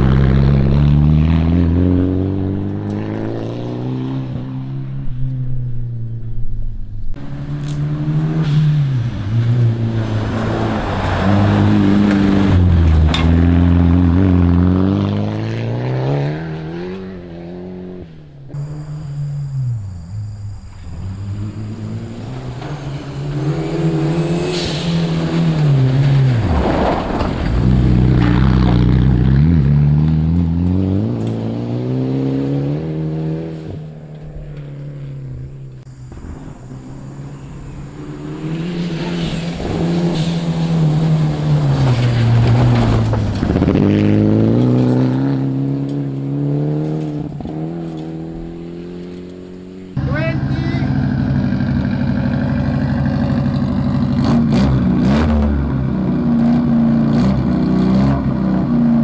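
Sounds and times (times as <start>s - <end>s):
rally car engines passing: 0.0s - 59.0s.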